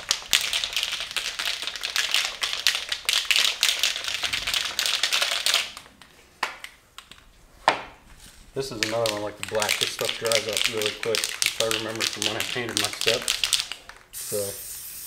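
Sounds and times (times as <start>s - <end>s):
spray can ball rattling: 0.0s - 5.9s, 8.6s - 15.0s.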